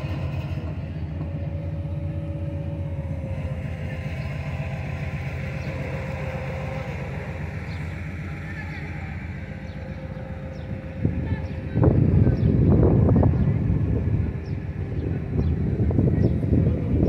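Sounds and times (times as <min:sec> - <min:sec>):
crane diesel engine rumbling: 0:00.0 - 0:17.0.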